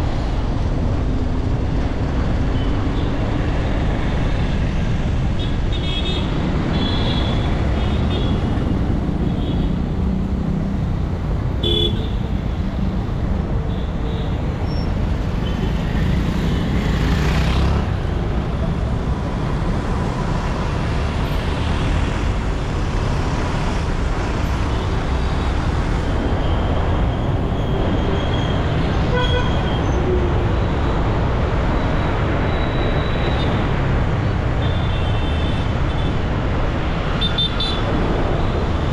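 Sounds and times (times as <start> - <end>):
traffic rumble: 0.0 - 38.9.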